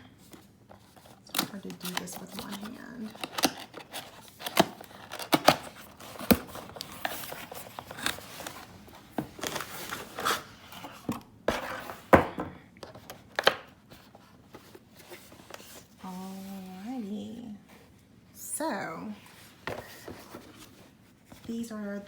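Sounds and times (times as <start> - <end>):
packaging rustling and crinkling: 0.2 - 12.2, 12.8 - 16.9, 19.2 - 21.6.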